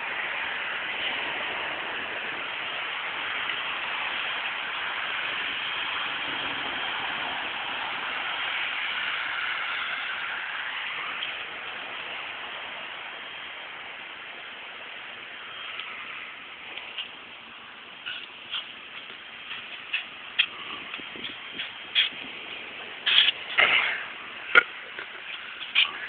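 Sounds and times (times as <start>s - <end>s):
steady static hiss: 0.0s - 26.0s.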